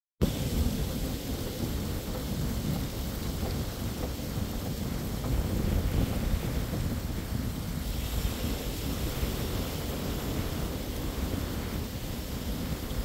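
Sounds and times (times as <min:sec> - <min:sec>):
surf breaking on beach: 0:00.2 - 0:13.0
wind buffeting microphone: 0:00.2 - 0:13.0.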